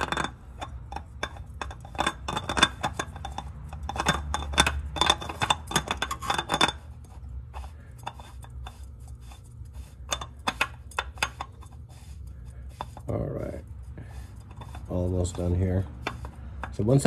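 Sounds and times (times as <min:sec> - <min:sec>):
oil filter clicking and rasping: 0:00.0 - 0:17.0.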